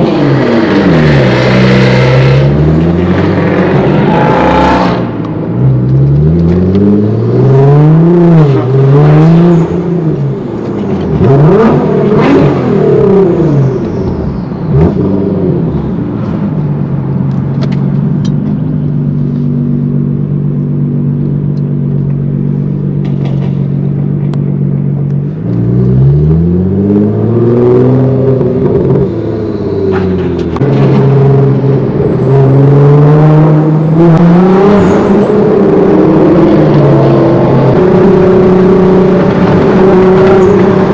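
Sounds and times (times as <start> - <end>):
car engine revving and idling: 0.0 - 40.9.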